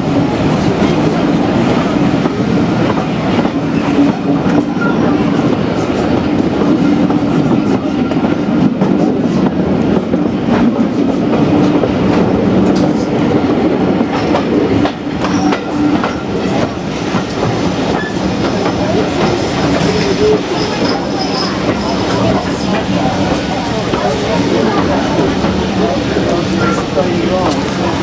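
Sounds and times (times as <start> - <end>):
railway carriage rumbling: 0.0 - 28.0.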